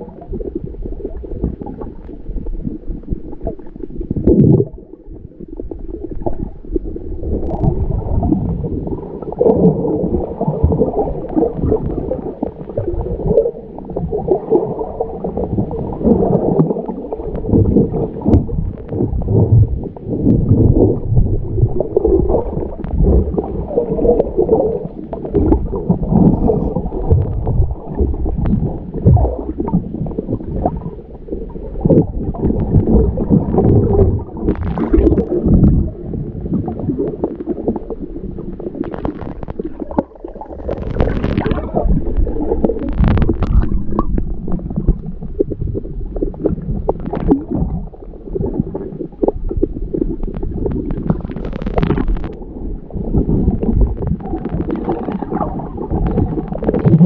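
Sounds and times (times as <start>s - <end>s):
underwater rumbling and gurgling: 0.0s - 57.0s.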